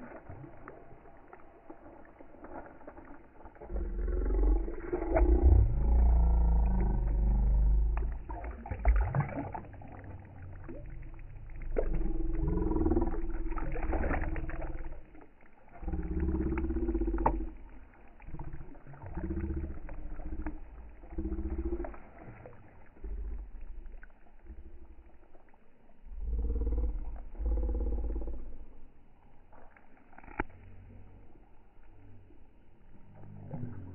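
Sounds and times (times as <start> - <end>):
fish splashing in water: 0.0 - 31.2
low humming rumble: 0.0 - 33.9.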